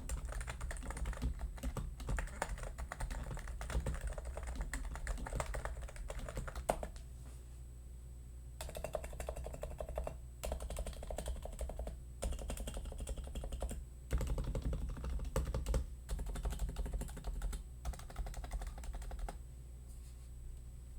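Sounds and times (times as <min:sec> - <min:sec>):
keyboard typing clacks: 0:00.0 - 0:07.0, 0:08.6 - 0:19.4.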